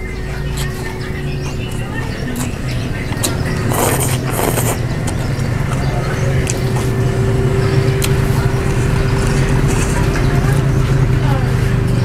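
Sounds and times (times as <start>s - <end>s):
low mechanical hum: 0.0s - 12.0s
noodles slurped: 0.4s - 11.2s.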